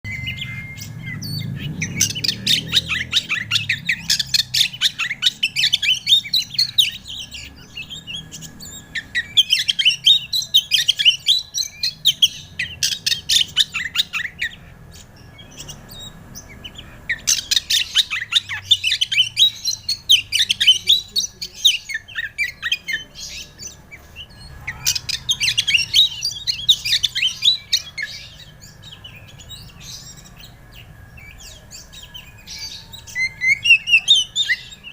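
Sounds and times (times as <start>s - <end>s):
bird singing chirps and whistles: 0.1s - 34.9s.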